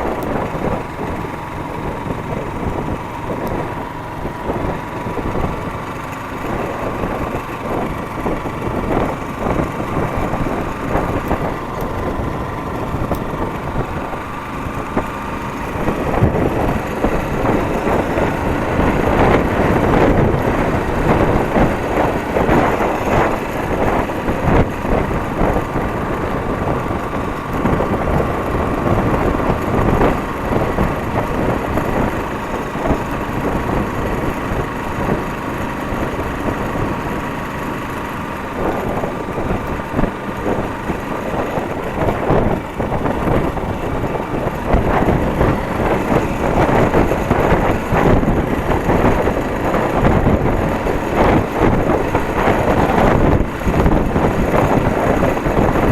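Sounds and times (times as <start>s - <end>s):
motorcycle engine hum: 0.0s - 55.9s
wind buffeting microphone: 0.0s - 55.9s.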